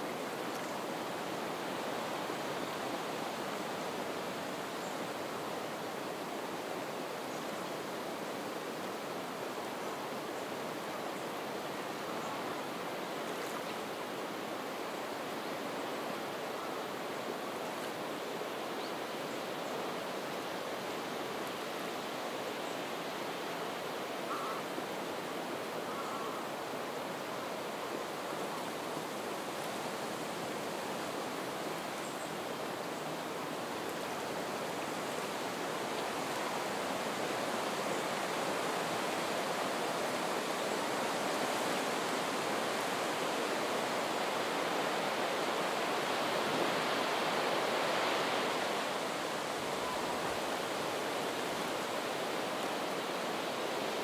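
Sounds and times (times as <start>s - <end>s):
wind rustling through reeds: 0.0s - 54.0s.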